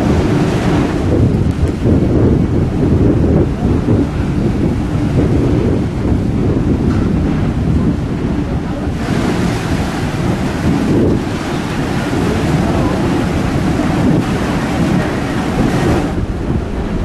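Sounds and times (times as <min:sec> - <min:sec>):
ship propellers rumbling: 0:00.0 - 0:17.0
turbulent water rushing: 0:00.0 - 0:17.0.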